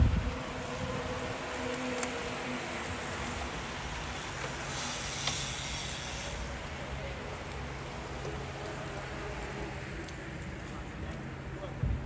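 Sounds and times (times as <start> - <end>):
bicycle tyres hissing on tarmac: 0.0 - 11.6.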